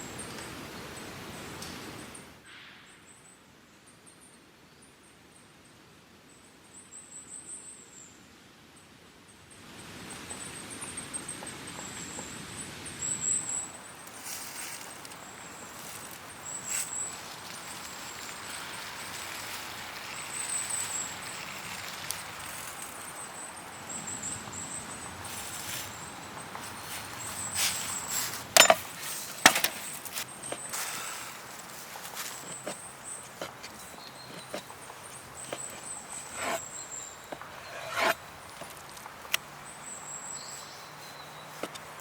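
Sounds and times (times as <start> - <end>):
outdoor background hiss: 0.0 - 42.0.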